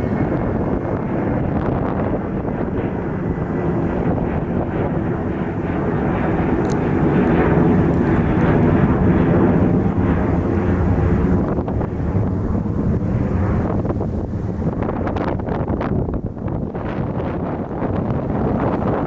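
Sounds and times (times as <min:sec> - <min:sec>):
jet airliner passing: 0:00.0 - 0:19.0
wind on microphone: 0:00.0 - 0:19.0.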